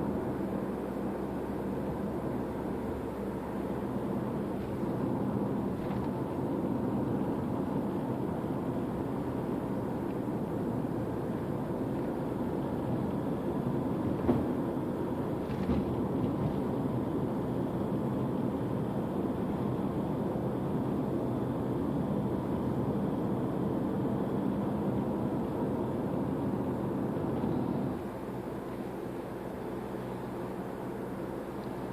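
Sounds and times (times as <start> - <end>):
car engine drone: 0.0 - 31.9.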